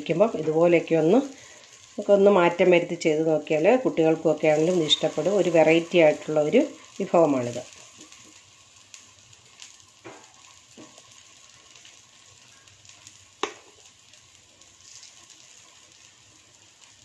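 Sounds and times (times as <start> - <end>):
batter sizzling in oil: 0.0 - 17.0.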